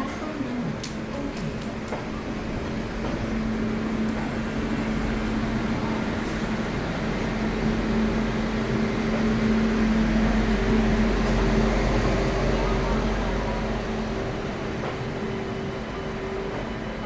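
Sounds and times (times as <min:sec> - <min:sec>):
locomotive humming: 0:00.0 - 0:17.0.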